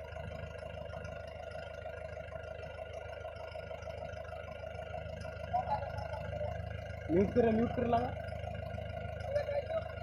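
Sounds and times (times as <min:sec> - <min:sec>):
heavy vehicle engine idling: 0:00.0 - 0:10.0.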